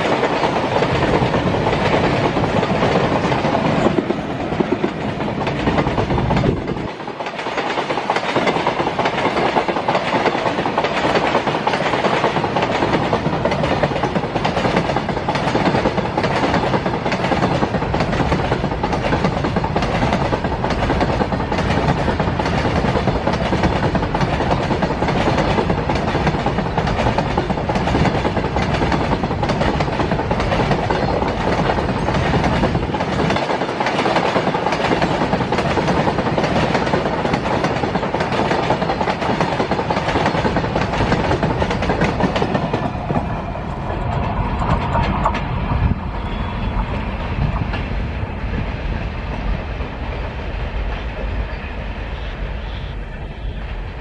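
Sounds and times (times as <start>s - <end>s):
wheels clacking over rail joints: 0.0s - 45.6s
freight train rumbling past: 0.0s - 54.0s.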